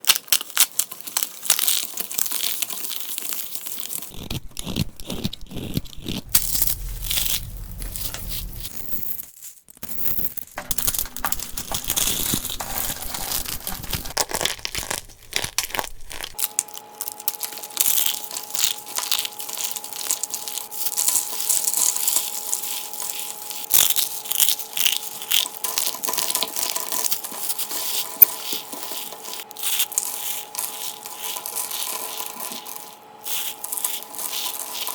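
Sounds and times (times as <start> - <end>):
dry soap crushed by hand: 0.0 - 9.0, 9.8 - 34.9
faint steady hum: 4.1 - 9.0, 10.6 - 34.9.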